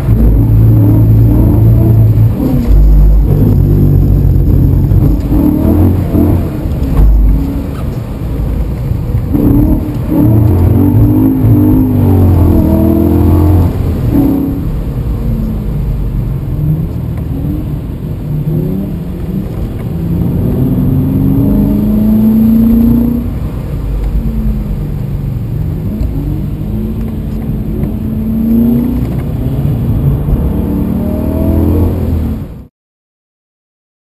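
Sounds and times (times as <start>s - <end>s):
car engine revving: 0.0s - 32.6s.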